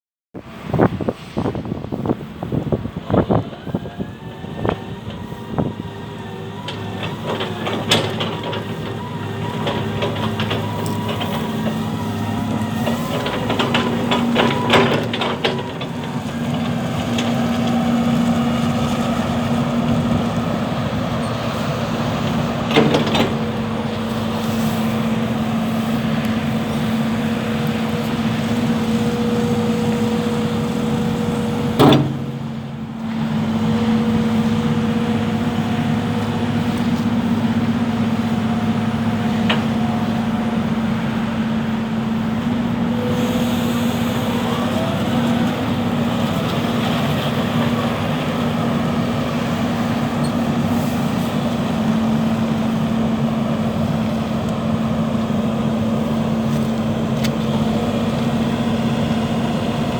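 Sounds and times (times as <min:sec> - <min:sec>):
diesel excavator engine running: 0:00.4 - 0:59.9.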